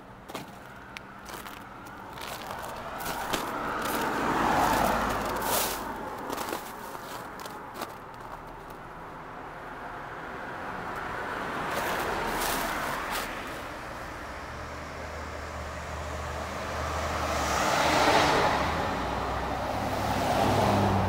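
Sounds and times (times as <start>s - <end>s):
low engine hum: 0.0s - 17.0s
cars passing on street: 0.0s - 21.0s.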